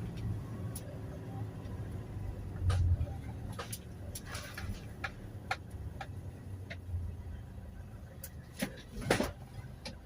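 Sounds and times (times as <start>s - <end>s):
van engine humming: 0.0s - 10.0s.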